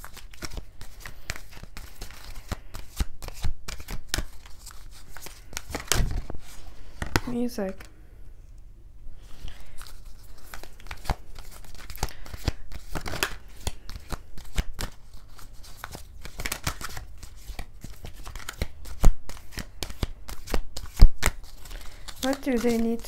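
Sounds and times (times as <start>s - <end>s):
cards shuffling: 0.0s - 7.9s, 9.3s - 23.0s.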